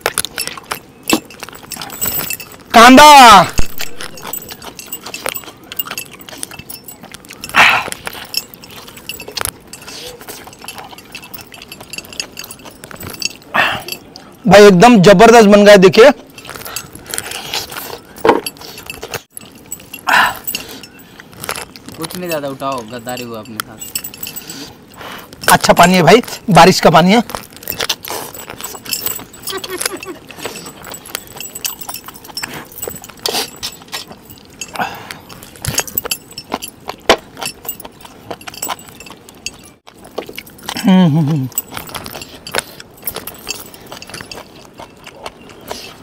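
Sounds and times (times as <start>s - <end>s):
metal bracelets jingling: 0.0s - 46.0s.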